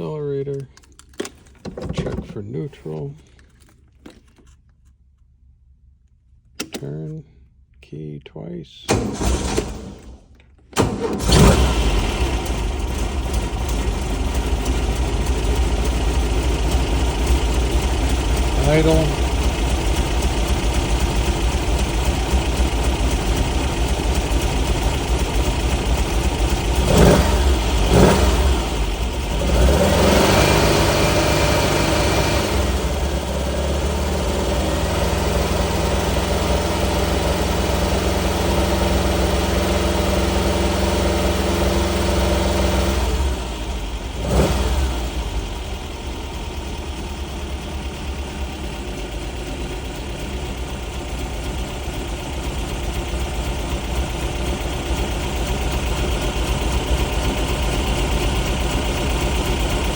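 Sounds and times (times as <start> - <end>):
car engine idling and revving: 8.9 - 59.9.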